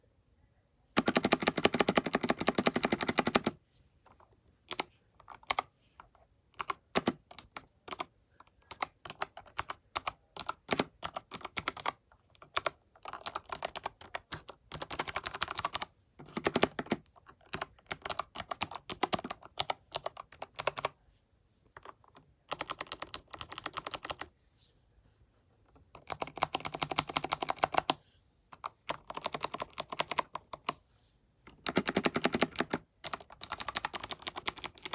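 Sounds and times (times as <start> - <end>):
clicky mechanical keyboard typing: 1.0 - 21.0, 21.8 - 24.3, 25.9 - 28.0, 28.6 - 30.8, 31.5 - 34.9.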